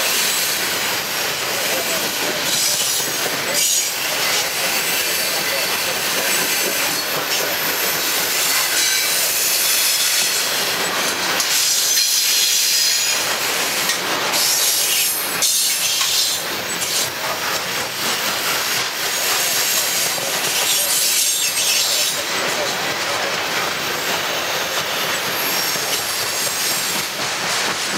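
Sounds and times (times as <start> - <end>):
steel wheels rolling on rail: 0.0 - 27.9
clacks over rail joints: 1.3 - 27.9.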